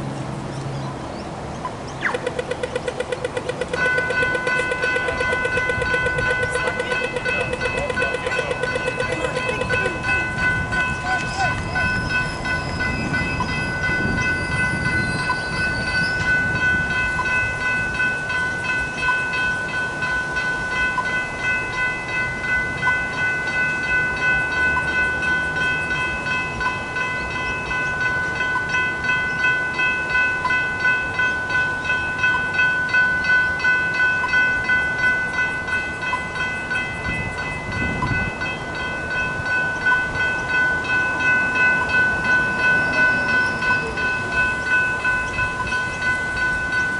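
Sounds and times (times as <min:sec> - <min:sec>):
level crossing warning bells: 0:01.7 - 0:46.9.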